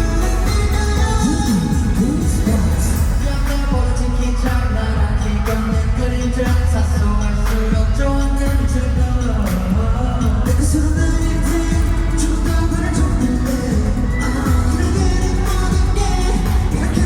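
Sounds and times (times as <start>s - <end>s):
group singing over pop track: 0.0s - 17.0s.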